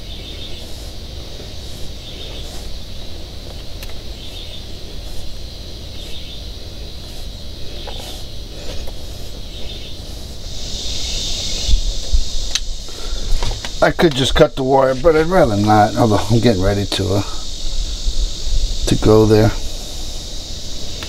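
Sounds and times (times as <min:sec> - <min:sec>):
high hiss: 0:00.0 - 0:21.0
high insect drone: 0:00.0 - 0:21.0.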